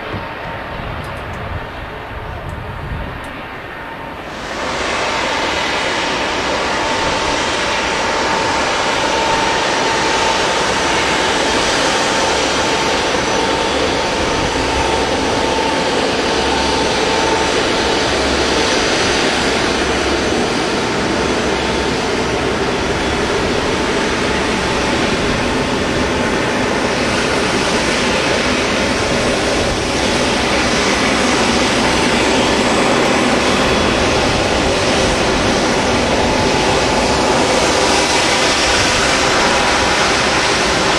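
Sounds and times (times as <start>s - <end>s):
jet engines roaring and whining: 0.0s - 40.9s.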